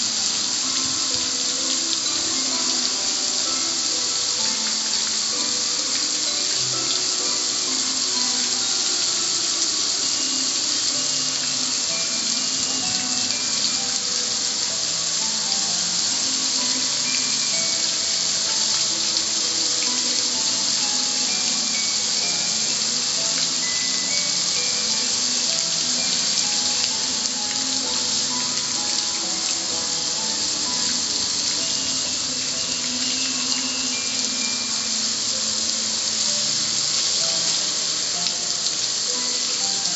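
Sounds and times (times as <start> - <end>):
hose spraying water on metal: 0.0 - 39.9.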